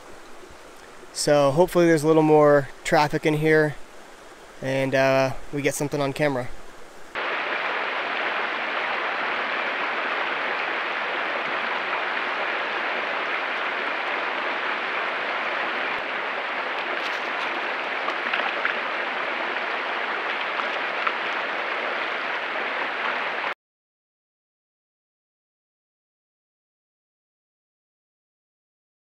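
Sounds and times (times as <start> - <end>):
creek water running over rocks: 0.0 - 23.6.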